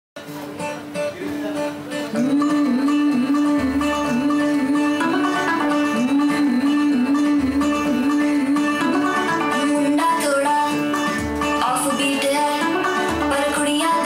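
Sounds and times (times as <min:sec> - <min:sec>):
plucked-string melody: 0:00.2 - 0:14.0.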